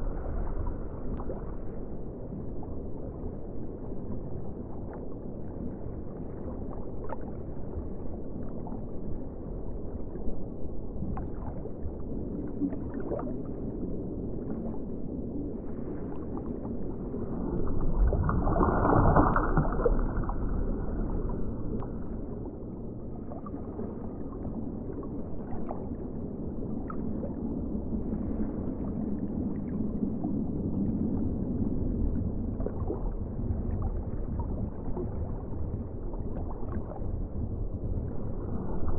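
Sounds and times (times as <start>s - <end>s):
muffled underwater rush: 0.0s - 38.9s.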